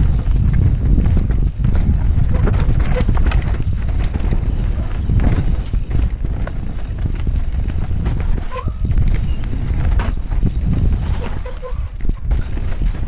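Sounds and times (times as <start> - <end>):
bike rattling and knocking: 0.0 - 13.0
bike tyres on dirt and stones: 0.0 - 13.0
wind rumble on microphone: 0.0 - 13.0.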